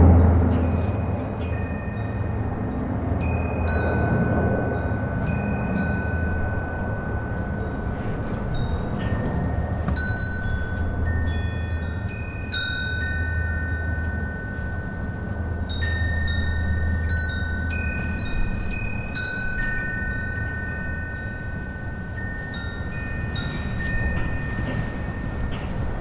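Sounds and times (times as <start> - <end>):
low rumble of wind: 0.0 - 26.0
wind chimes ringing: 0.0 - 26.0.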